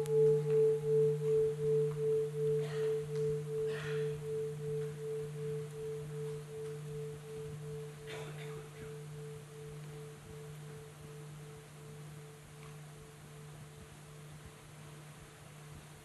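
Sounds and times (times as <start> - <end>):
meditation bowl ringing: 0.0 - 15.8.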